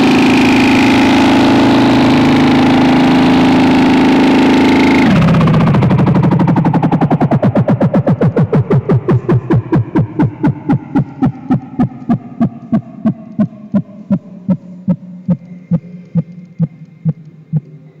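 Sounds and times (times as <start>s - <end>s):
pulse of falling thumps: 0.0s - 17.8s
sinking electronic drone: 0.0s - 18.0s.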